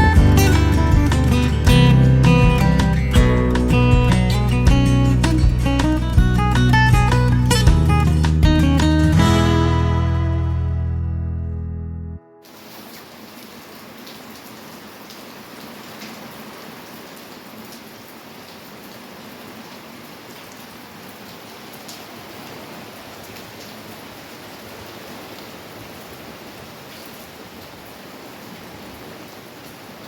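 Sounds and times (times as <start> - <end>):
steady rain falling: 0.0 - 9.2, 12.4 - 30.0.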